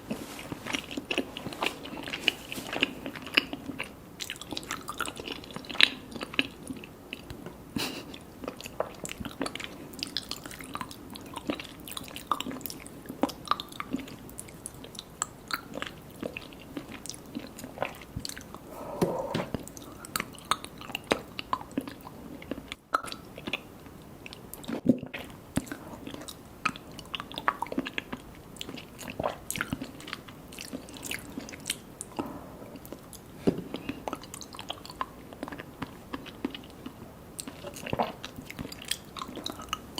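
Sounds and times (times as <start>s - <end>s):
chewing with wet mouth clicks: 0.7s - 7.4s, 8.1s - 18.6s, 19.8s - 39.9s.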